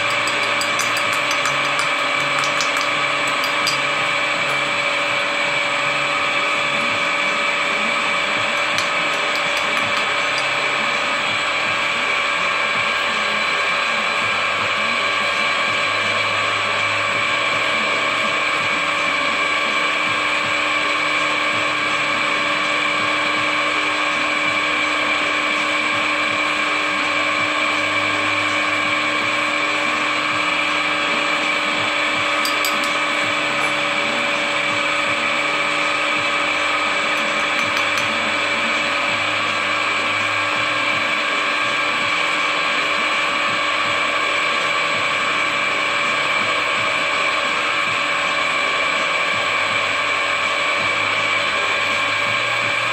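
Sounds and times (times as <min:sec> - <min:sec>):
drill press whining: 0:00.0 - 0:52.9.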